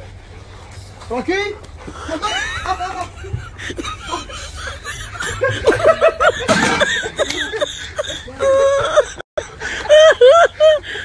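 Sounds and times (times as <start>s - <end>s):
men laughing: 1.8s - 11.0s.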